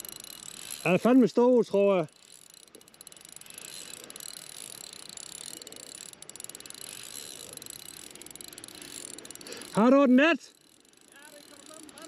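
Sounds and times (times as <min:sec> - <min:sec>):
fishing reel whirring: 0:00.0 - 0:12.0.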